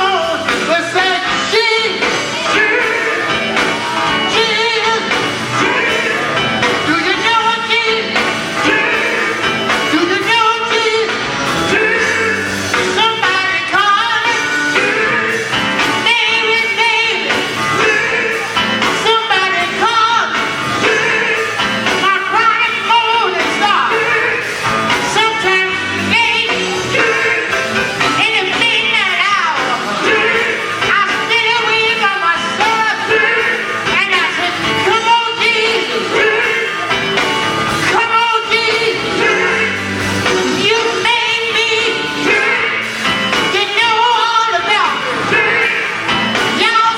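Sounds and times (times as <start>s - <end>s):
gospel vocal group singing: 0.0s - 46.9s
instrumental accompaniment: 0.0s - 46.9s.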